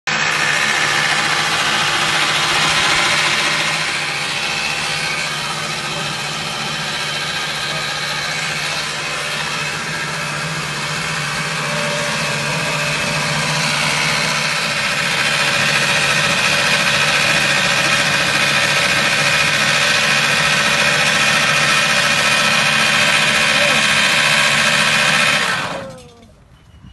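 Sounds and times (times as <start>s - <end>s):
blade cylinder whirring: 0.1s - 26.3s
electric lawn mower motor humming: 0.1s - 26.3s.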